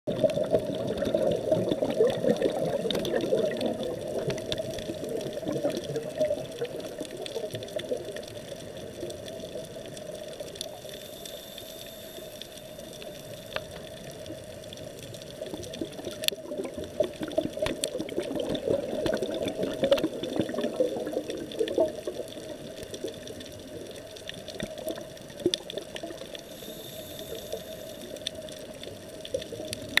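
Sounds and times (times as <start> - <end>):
underwater bubbles gurgling: 0.1 - 30.0.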